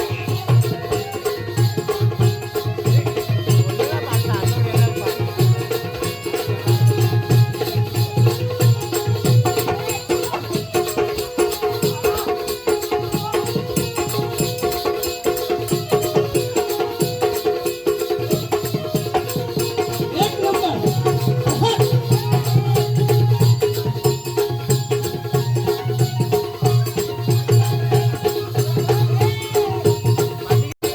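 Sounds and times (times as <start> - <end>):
fast folk percussion: 0.0 - 30.9.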